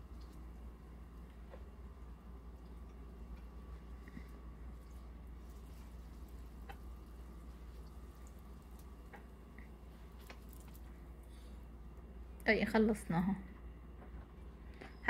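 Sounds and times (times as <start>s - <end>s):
egg frying in oil: 0.0s - 12.2s.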